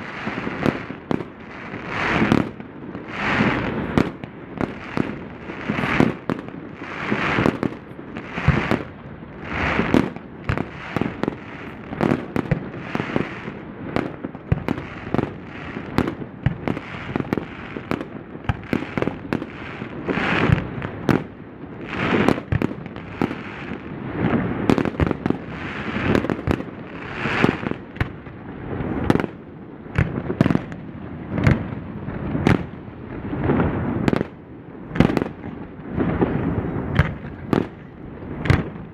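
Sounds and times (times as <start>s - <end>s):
crackling hisses of fireworks: 0.0s - 38.9s
fireworks bursting with sharp bangs: 0.0s - 38.9s.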